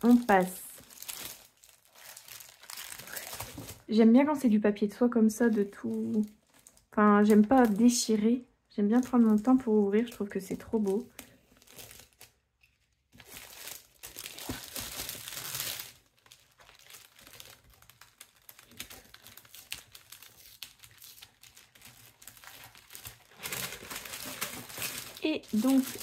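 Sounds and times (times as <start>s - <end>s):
tissue paper crinkling: 0.0s - 3.8s, 9.0s - 26.0s.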